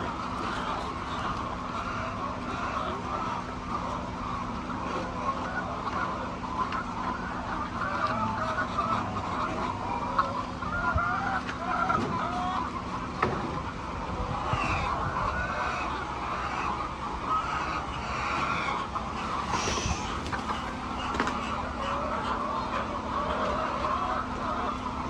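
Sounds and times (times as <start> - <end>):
hens clucking: 0.0 - 25.0.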